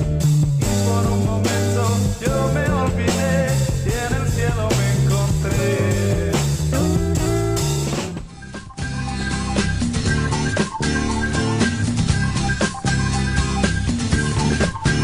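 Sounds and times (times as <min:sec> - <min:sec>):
rock band with singing: 0:00.0 - 0:15.0.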